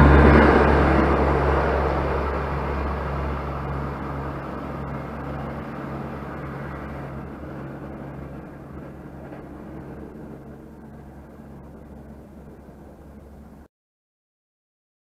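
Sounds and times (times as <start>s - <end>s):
steady low hum: 0.0s - 13.7s
train rumbling on rails: 0.0s - 13.7s.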